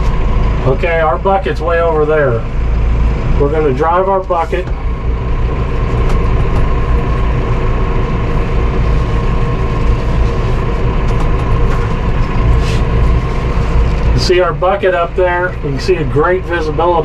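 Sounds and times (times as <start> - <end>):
tractor diesel engine rumbling: 0.0 - 17.0.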